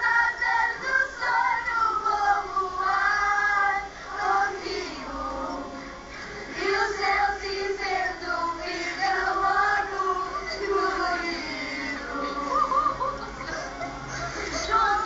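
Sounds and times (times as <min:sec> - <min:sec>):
children singing in chorus: 0:00.0 - 0:13.2, 0:14.4 - 0:15.0.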